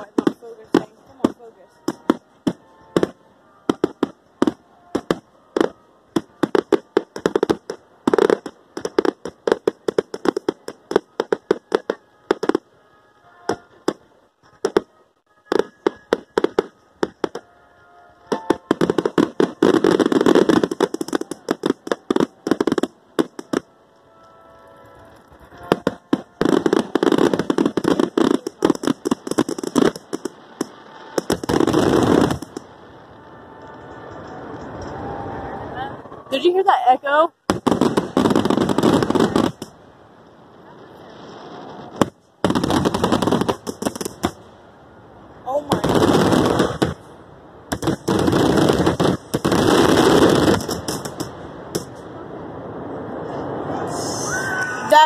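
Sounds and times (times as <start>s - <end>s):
fireworks bursts banging and crackling: 0.0s - 44.7s, 45.4s - 52.2s.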